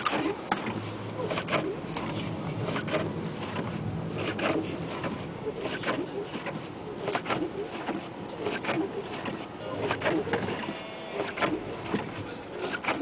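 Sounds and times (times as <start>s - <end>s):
car engine humming: 0.0s - 13.0s
windshield wipers squeaking: 0.0s - 13.0s.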